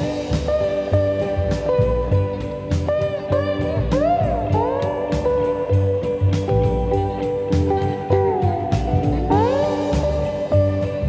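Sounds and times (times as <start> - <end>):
bluesy guitar: 0.0 - 11.0
steady drum beat: 0.0 - 11.0.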